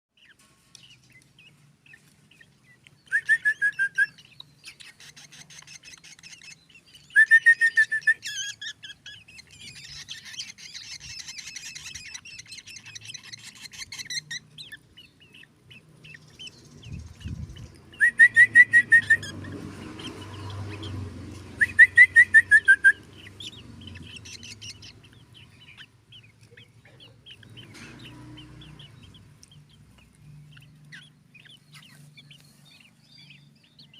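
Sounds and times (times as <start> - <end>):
bird chattering and twittering: 0.1 - 33.9
bird singing fast repeated notes: 0.2 - 33.9.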